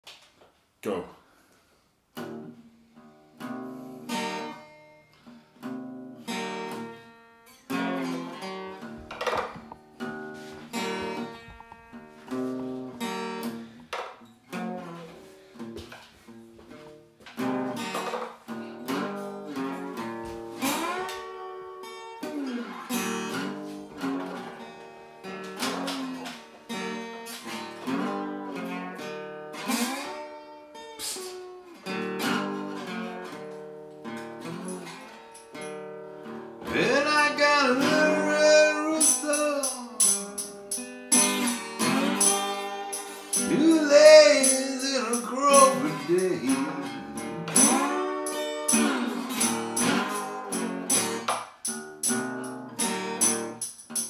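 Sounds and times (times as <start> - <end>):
acoustic guitar playing blues: 2.1 - 54.0.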